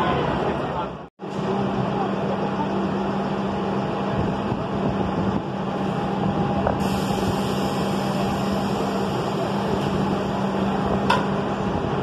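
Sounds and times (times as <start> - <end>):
subway train running: 0.0 - 12.0.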